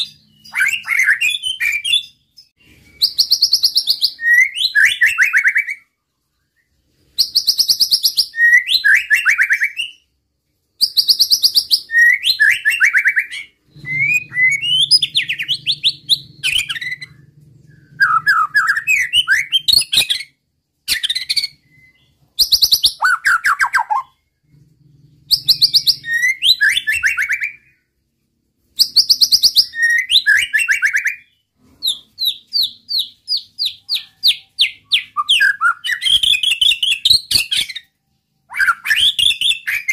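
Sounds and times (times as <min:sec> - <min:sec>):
songbird trilling and whistling: 0:00.0 - 0:05.8, 0:07.2 - 0:10.0, 0:10.8 - 0:24.3, 0:25.2 - 0:27.8, 0:28.8 - 0:37.9, 0:38.5 - 0:39.9.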